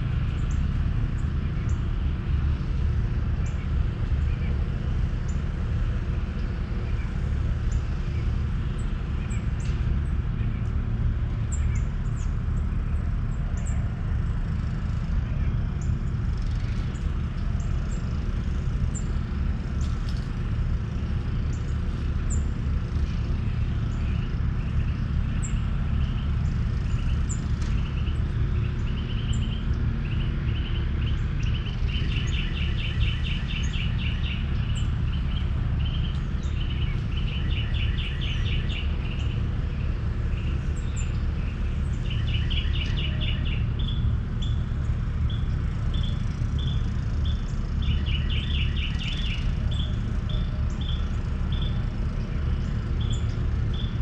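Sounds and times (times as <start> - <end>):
birds chirping: 0.1 - 54.0.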